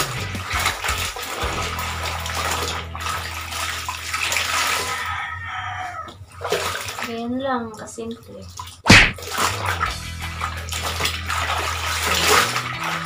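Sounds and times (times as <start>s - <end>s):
water sloshing and splashing in basin: 0.0s - 13.0s.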